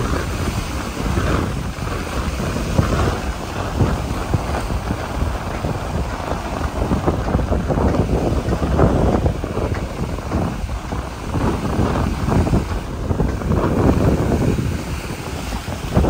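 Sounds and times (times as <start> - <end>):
wind blowing across microphone: 0.0 - 16.0.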